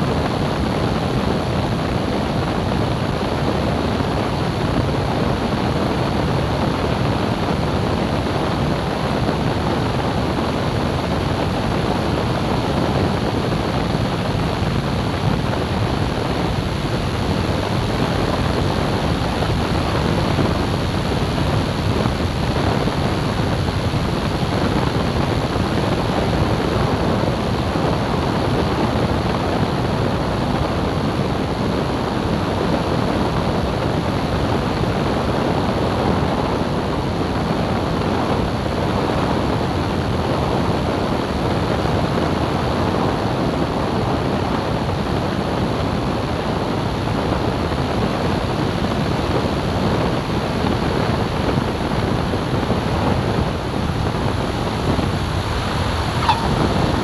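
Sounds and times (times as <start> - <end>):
airplane engine and airflow: 0.0 - 57.0
wind buffeting microphone: 0.0 - 57.0.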